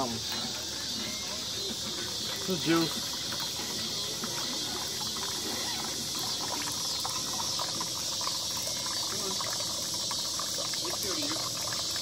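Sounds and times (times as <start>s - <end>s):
juice trickling into plastic cup: 0.0s - 12.0s.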